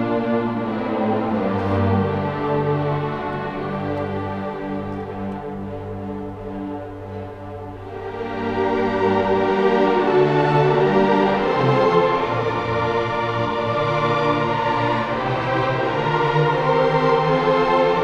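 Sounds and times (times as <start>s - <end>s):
orchestra playing slow chords: 0.0s - 18.0s.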